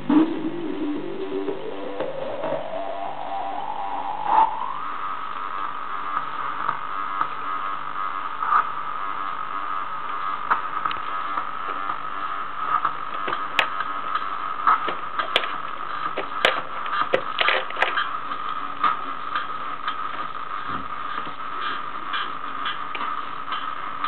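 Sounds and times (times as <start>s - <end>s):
glitchy electronic buzzing drone: 0.0s - 24.0s
sharp electronic clicks and crackles: 4.2s - 24.0s.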